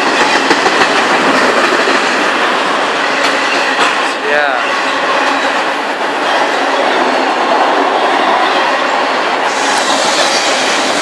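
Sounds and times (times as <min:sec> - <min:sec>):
steel wheels rolling on rail: 0:00.0 - 0:11.0.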